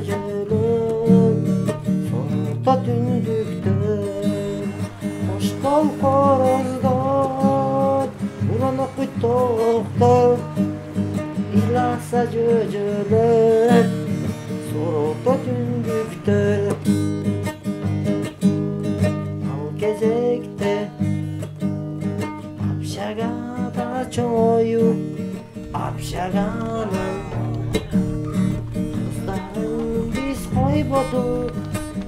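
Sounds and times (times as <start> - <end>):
strummed acoustic guitar music: 0.0 - 32.0.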